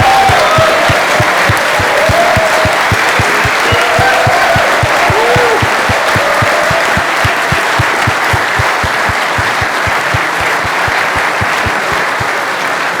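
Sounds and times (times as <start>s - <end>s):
low thuds: 0.0s - 12.0s
audience applauding: 0.0s - 13.0s.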